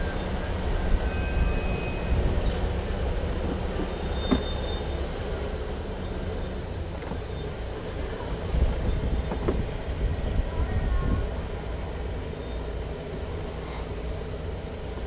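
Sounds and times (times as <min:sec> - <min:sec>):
low rumble of moving vehicle: 0:00.0 - 0:15.0.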